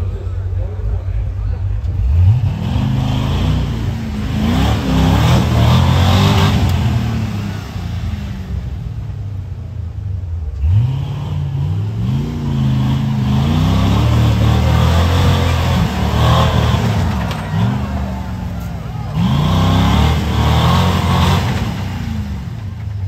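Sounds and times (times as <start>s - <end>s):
race vehicle engine revving: 0.0s - 23.0s.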